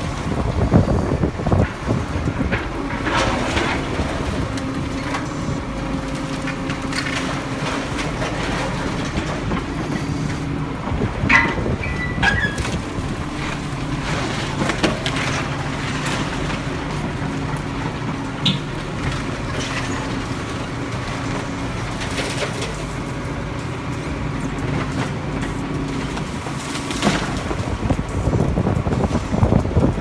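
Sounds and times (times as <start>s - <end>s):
heavy machine engine running: 0.0s - 30.0s.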